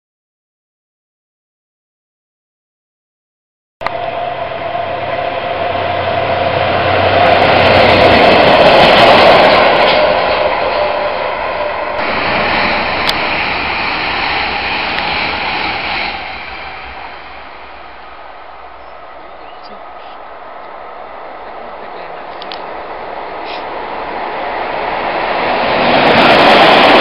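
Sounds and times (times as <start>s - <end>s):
diesel locomotive engine passing: 3.8s - 27.0s
rushing train noise: 3.8s - 27.0s.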